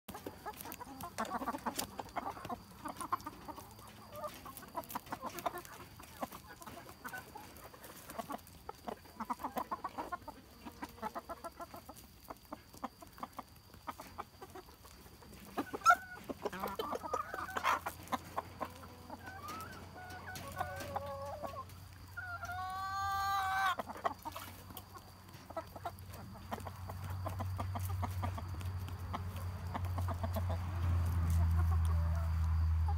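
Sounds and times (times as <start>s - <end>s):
chickens clucking: 0.1s - 32.9s.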